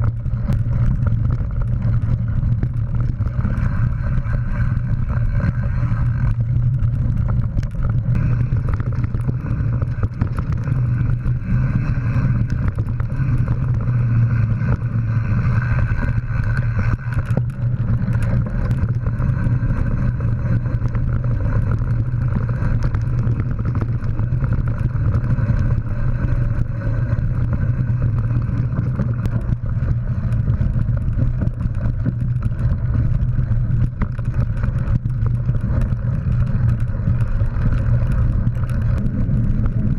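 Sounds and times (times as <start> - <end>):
bike clatters and rattles: 0.0 - 39.9
bike tyres rumbling on dirt: 0.0 - 39.9.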